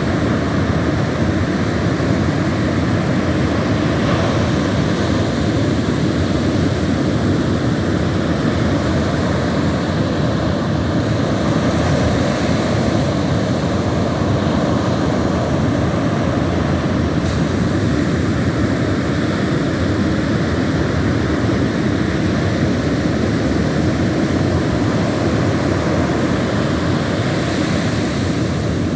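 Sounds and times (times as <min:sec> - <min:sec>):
waves breaking on a beach: 0:00.0 - 0:28.9.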